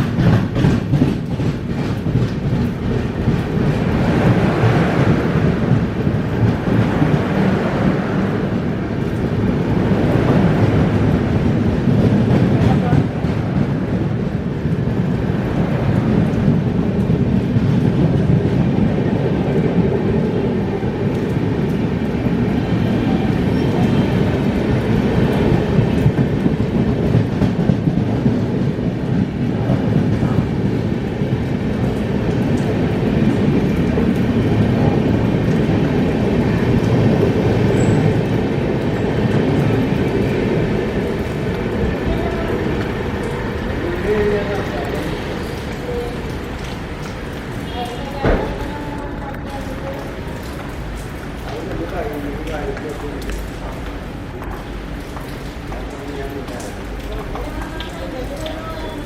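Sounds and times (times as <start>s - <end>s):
train running on rails: 0.0s - 59.0s.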